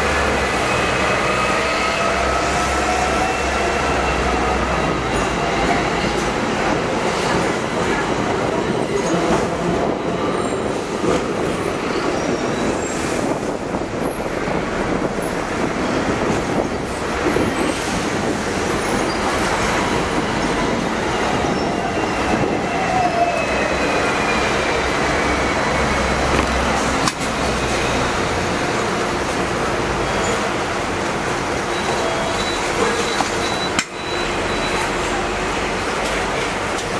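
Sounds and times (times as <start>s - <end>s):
tram rumbling and rattling on rails: 0.0s - 36.9s.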